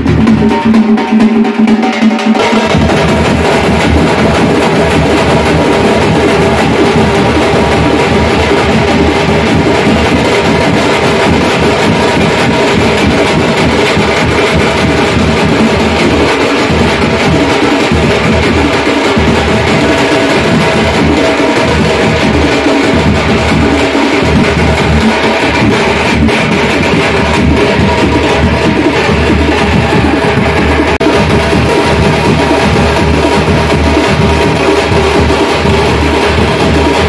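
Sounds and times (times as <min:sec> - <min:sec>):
folk band loud dense drumming: 0:00.0 - 0:37.0.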